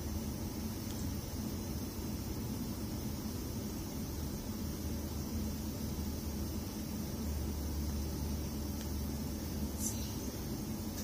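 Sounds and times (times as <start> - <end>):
faint hiss: 0.0 - 11.0
low room rumble: 0.0 - 11.0.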